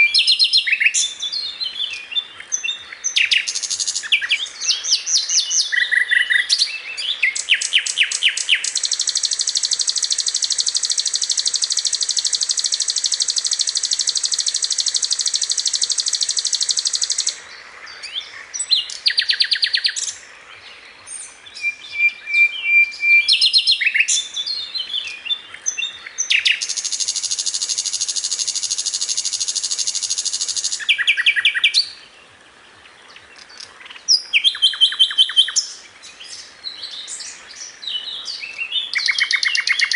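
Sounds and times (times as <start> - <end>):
bird singing chips and trills: 0.0 - 20.2, 21.0 - 32.2, 33.1 - 39.9.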